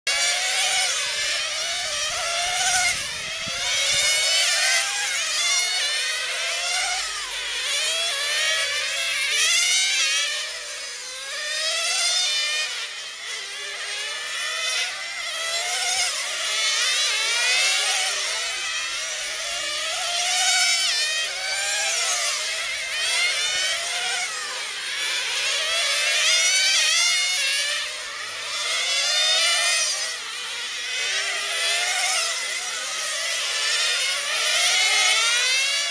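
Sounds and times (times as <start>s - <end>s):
model car engines buzzing whine: 0.0s - 35.9s.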